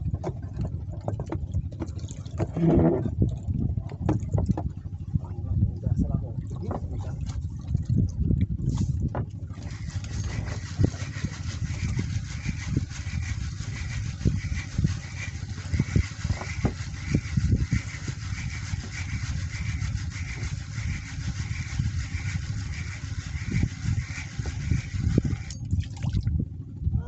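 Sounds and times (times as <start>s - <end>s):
boat and water thumps: 0.0s - 5.3s, 6.0s - 26.2s
wind buffeting microphone: 0.0s - 27.0s.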